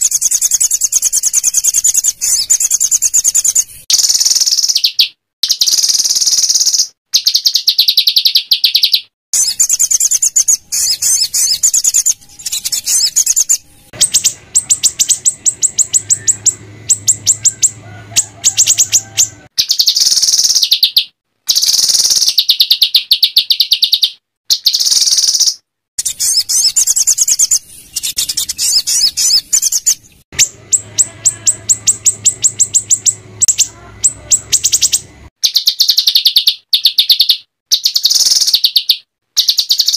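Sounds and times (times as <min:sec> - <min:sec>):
songbird rattling trill: 0:00.0 - 0:39.9
songbird warbled phrases: 0:00.0 - 0:39.9.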